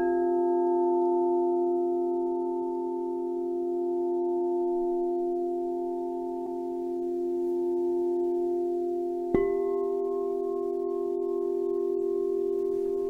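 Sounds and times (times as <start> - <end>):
singing bowls ringing: 0.0 - 13.0.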